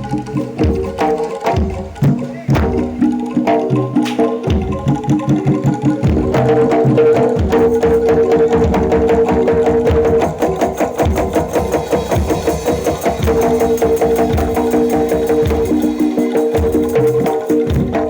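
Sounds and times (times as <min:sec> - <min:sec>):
drum and percussion strokes: 0:00.0 - 0:18.0.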